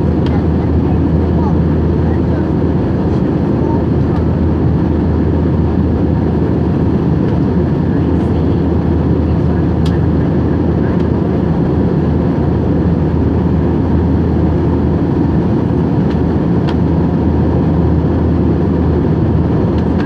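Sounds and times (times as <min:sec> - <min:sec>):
jet airliner in flight: 0:00.0 - 0:20.0.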